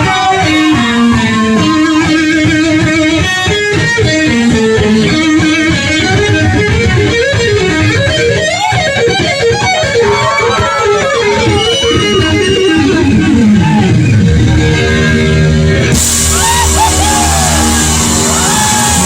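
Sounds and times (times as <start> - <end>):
electric guitar solo: 0.0 - 19.0
rock band playing: 0.0 - 19.0.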